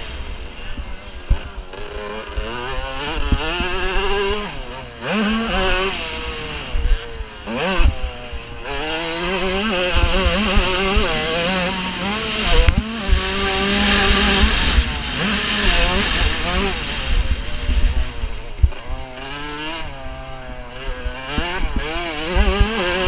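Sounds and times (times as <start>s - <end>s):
motocross bike engine revving: 0.0s - 23.0s.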